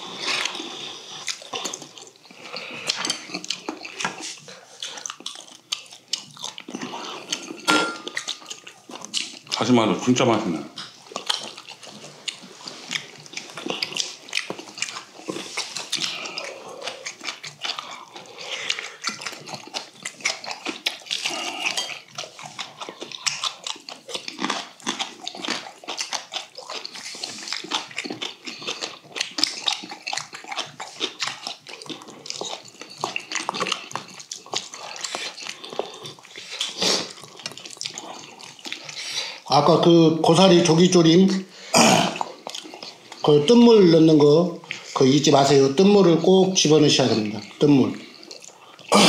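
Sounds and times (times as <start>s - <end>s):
wet chewing and slurping: 0.0s - 49.0s.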